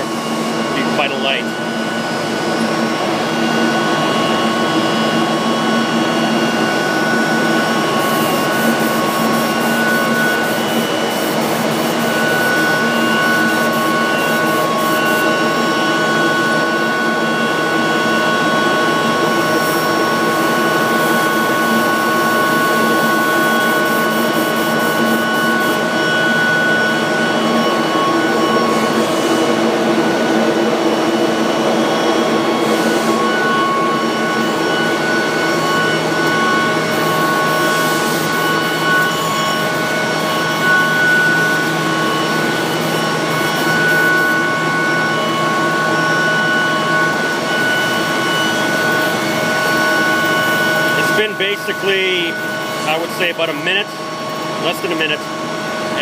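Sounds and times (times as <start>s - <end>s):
whining tones: 0.0s - 52.9s
airy mechanical whir: 0.0s - 56.0s.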